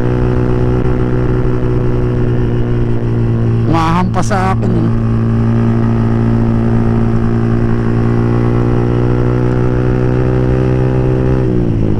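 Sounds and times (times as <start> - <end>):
motorcycle engine running steadily: 0.0 - 11.9.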